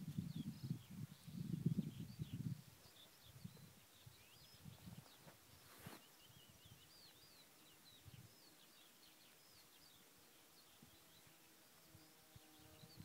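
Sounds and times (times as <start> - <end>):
distant small birds chirping: 0.0 - 13.0.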